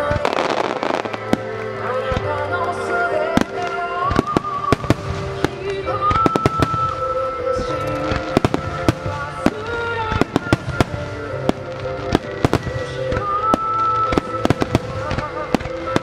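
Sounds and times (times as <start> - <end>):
fireworks bursting: 0.0 - 16.0
music with long held notes: 0.0 - 16.0.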